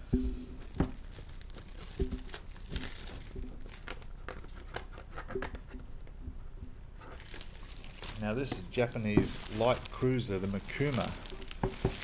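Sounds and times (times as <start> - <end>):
plastic shrink-wrap crinkling: 0.6 - 5.4, 6.8 - 12.0
plastic wrap snapping: 0.6 - 5.6, 7.0 - 12.0.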